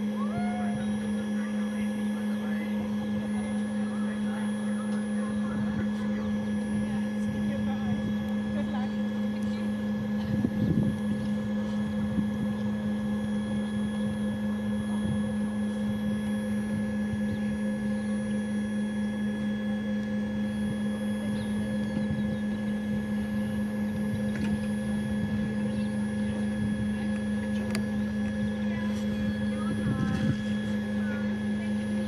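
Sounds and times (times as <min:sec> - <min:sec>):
ground power unit hum and whine: 0:00.0 - 0:32.0.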